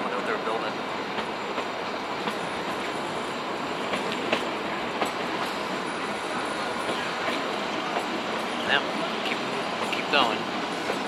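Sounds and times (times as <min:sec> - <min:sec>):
train carriage running on track: 0:00.0 - 0:11.0
wheels clacking on rails: 0:00.0 - 0:11.0.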